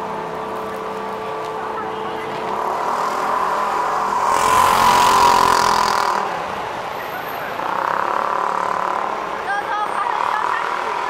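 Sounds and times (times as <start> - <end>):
traffic hum: 0.0 - 11.0
vehicle passing: 0.9 - 11.0.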